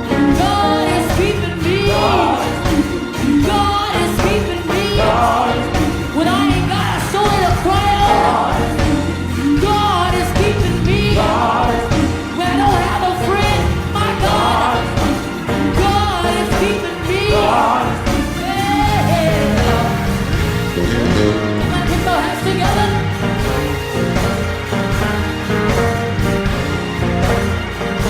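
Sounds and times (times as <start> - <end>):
gospel music with singers and band: 0.0 - 28.0.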